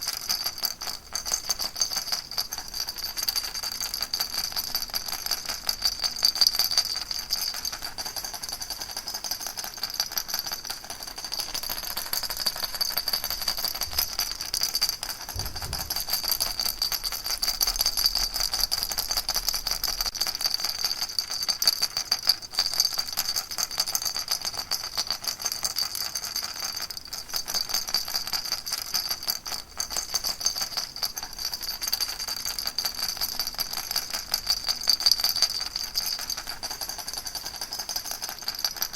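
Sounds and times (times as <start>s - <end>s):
baby rattle shaken: 0.0s - 38.9s.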